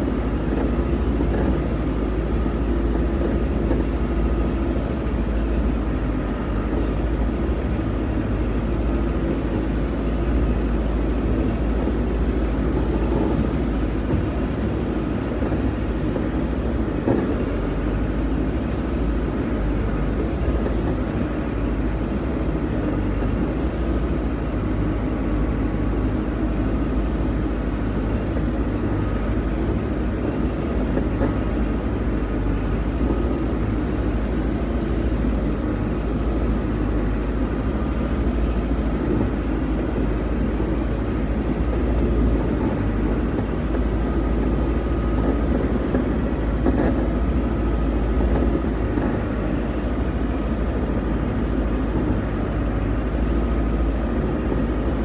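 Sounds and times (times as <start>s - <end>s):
diesel engine rumble: 0.0s - 55.0s.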